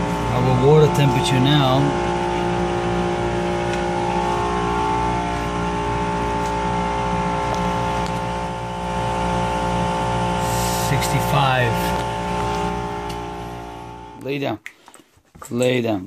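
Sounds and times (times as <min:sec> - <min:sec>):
chiller compressor droning: 0:00.0 - 0:14.5.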